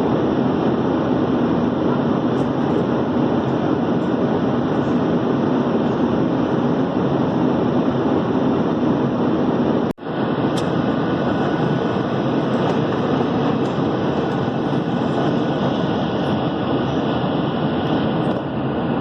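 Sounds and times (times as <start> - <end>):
airplane cabin engine and airflow noise: 0.0 - 19.0.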